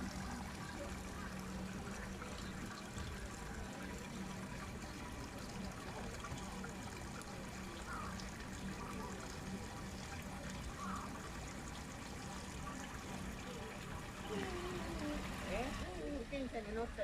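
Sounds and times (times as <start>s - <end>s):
low steady hum: 0.0s - 17.0s
running water trickling: 0.0s - 17.0s.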